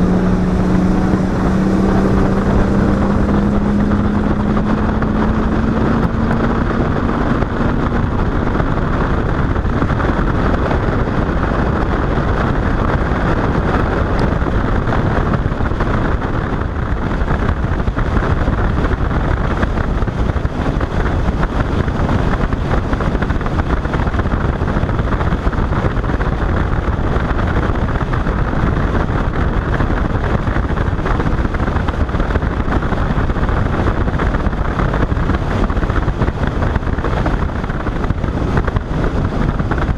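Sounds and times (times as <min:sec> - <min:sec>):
boat motor and hull rush: 0:00.0 - 0:39.9
wind buffeting microphone: 0:00.0 - 0:39.9.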